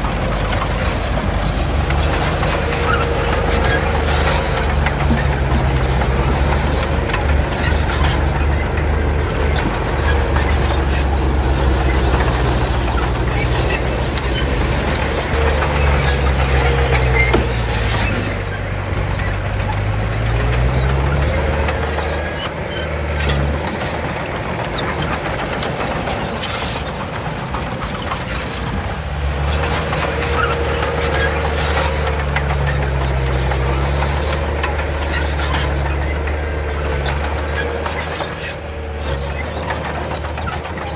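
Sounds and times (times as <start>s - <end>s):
bulldozer diesel engine under load: 0.0s - 40.9s
high-pitched metallic track noise: 0.0s - 40.9s.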